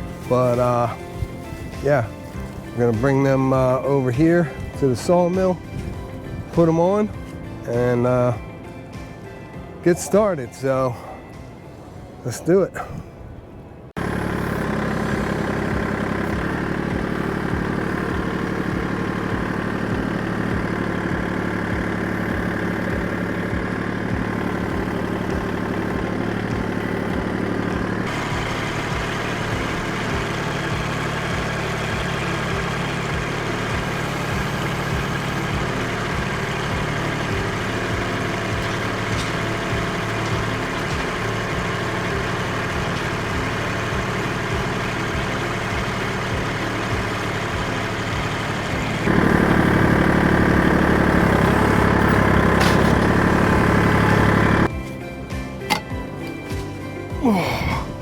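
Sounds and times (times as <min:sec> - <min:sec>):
engine running: 0:00.0 - 0:09.8, 0:13.8 - 0:58.0.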